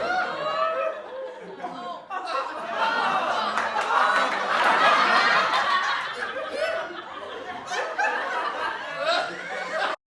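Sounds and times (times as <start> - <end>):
group of people laughing: 0.0 - 10.0.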